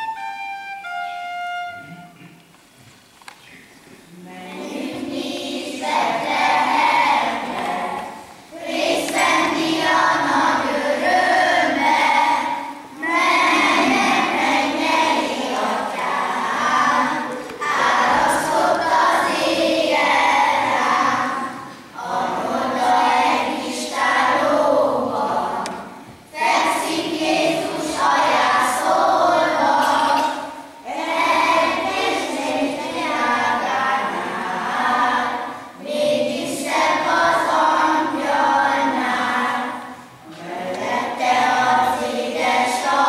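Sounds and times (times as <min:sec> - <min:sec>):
children singing together: 0:04.1 - 0:43.0.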